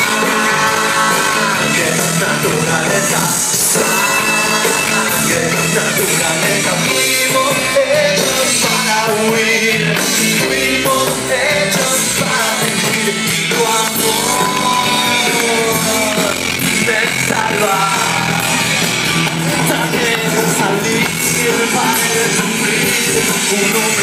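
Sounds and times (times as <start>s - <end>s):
live rock band with singer: 0.0s - 24.0s.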